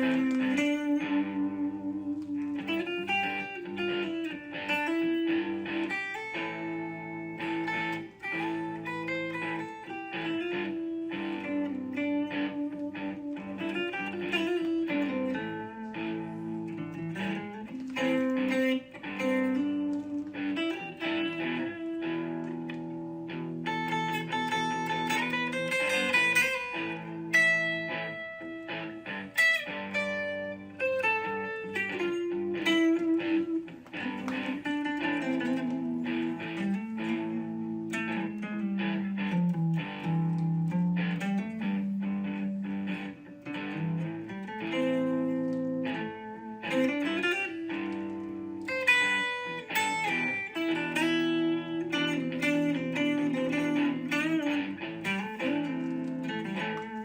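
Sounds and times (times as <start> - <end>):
plucked guitar music: 0.0 - 57.0.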